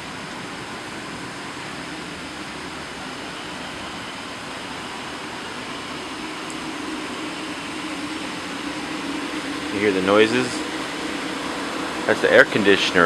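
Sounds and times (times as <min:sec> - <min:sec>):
air conditioning air rushing: 0:00.0 - 0:13.0.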